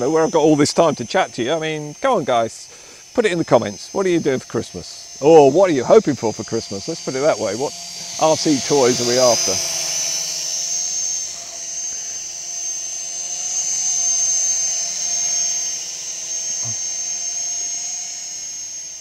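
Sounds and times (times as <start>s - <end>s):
toy drone motors whining: 0.0s - 19.0s.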